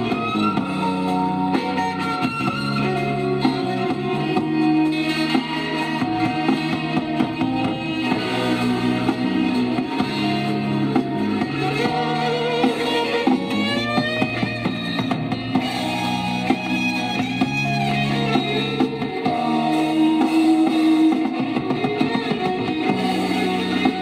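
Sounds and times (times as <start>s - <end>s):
garage rock song from vinyl: 0.0s - 24.0s.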